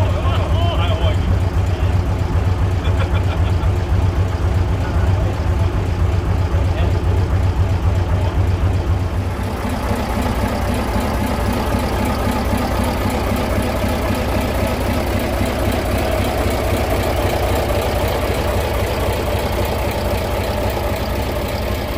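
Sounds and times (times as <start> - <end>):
truck engine idling: 0.0 - 21.9.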